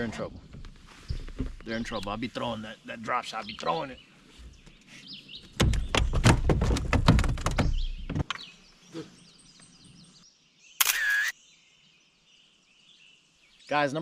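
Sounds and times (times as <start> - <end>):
birds chirping faintly: 0.0 - 14.0.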